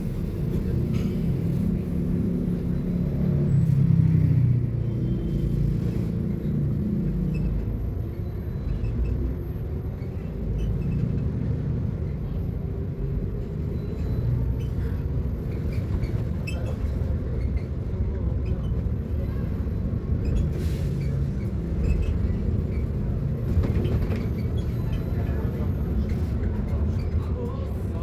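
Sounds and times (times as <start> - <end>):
electric bus low rumble: 0.0 - 28.0.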